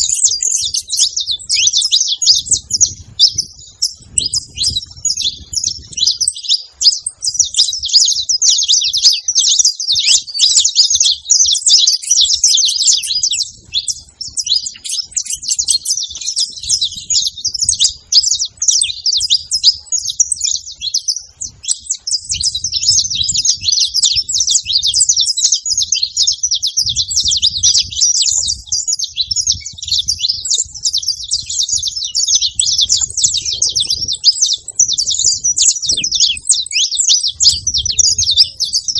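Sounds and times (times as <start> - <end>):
finch chirps and trills: 0.0 - 38.9.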